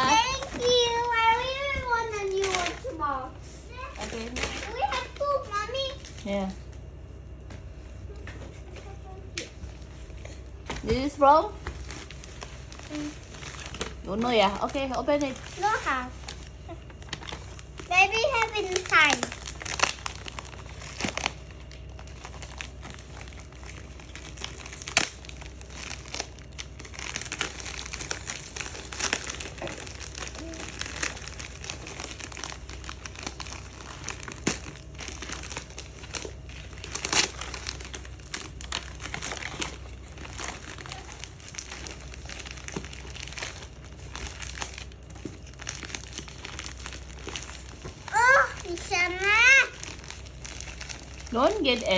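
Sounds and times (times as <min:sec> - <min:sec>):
wrapping paper crinkling and tearing: 0:00.0 - 0:06.5, 0:09.6 - 0:51.9.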